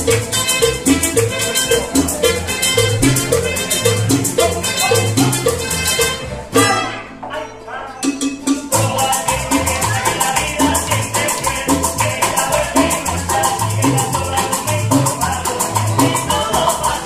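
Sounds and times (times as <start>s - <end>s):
maracas shaking: 0.0s - 6.9s, 8.0s - 17.0s
strummed guitar: 0.0s - 16.9s
plucked upright bass: 0.0s - 17.0s.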